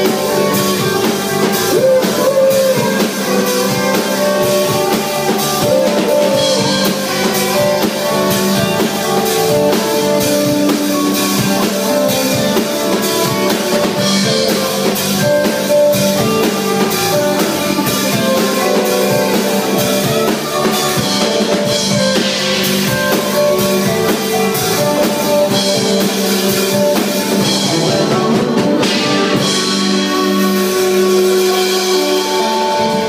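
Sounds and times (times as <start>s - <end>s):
drum kit: 0.0s - 33.0s
electric guitar playing: 0.0s - 33.0s.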